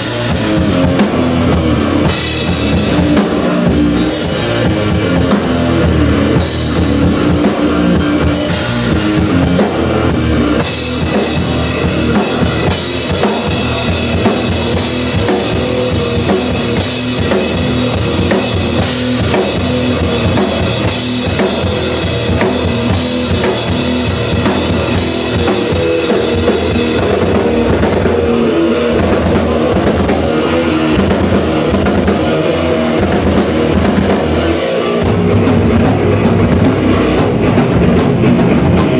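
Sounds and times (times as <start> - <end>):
electric guitar: 0.0 - 38.9.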